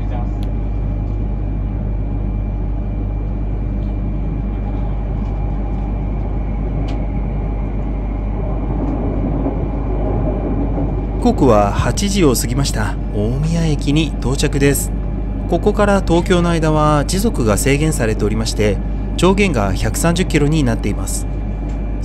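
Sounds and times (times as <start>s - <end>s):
train cabin rumble and rush: 0.0s - 1.4s, 3.8s - 22.0s.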